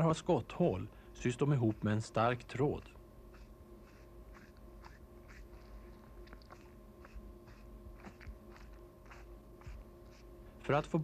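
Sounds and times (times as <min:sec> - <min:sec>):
faint steady hum: 0:00.0 - 0:11.0
soft irregular ticks: 0:01.4 - 0:10.3.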